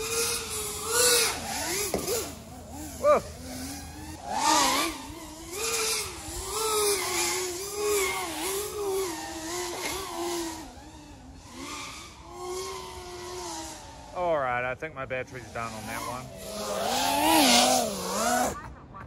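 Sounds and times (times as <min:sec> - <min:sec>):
quadcopter motors whining: 0:00.0 - 0:14.6, 0:15.2 - 0:19.0.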